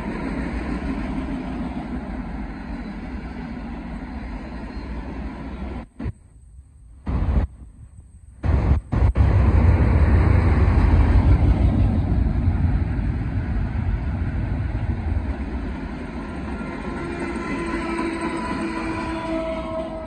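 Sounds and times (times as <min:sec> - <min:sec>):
diesel locomotive engine humming: 0:00.0 - 0:20.0
freight cars rumbling on rails: 0:00.0 - 0:20.0.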